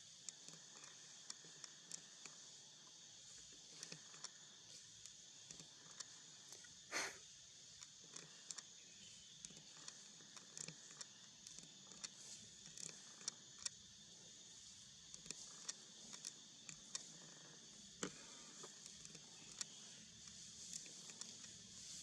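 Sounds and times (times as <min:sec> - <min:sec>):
small irregular clicks and taps: 0:00.0 - 0:06.8, 0:07.6 - 0:22.0
faint steady hiss: 0:00.0 - 0:22.0.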